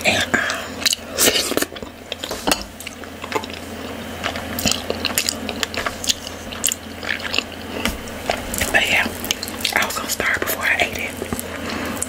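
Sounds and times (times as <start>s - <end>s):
sticky chewing squishes: 0.0s - 12.0s
lip smacks and mouth clicks: 0.4s - 10.5s.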